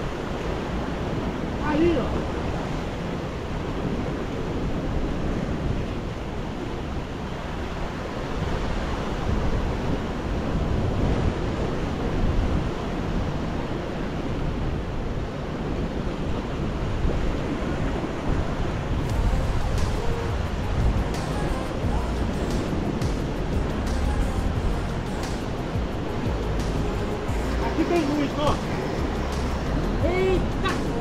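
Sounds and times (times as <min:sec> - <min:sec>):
surf washing on rocks: 0:00.0 - 0:31.0
wind buffeting microphone: 0:00.0 - 0:31.0.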